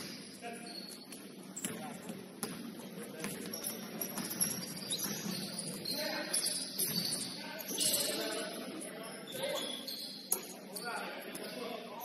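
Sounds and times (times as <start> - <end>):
shoe squeaks: 0.0 - 12.0.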